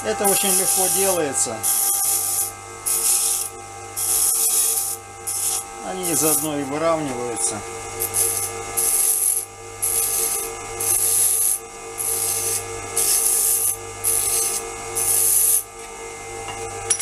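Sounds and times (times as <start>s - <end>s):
hissing scrapes on grinding wheel: 0.0s - 15.7s
bench grinder motor hum: 0.0s - 17.0s.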